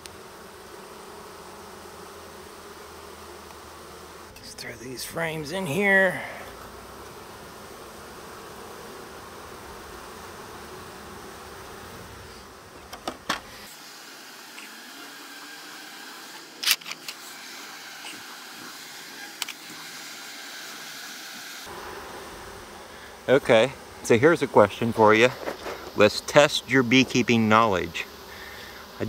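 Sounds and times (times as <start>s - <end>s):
bee swarm buzzing: 0.0s - 29.0s.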